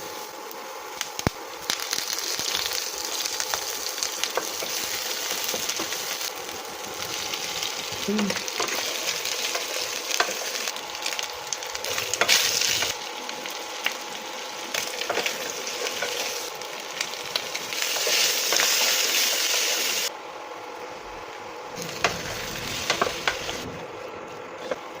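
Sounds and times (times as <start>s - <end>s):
chicken sizzling in hot oil: 0.0s - 20.1s, 21.8s - 23.8s.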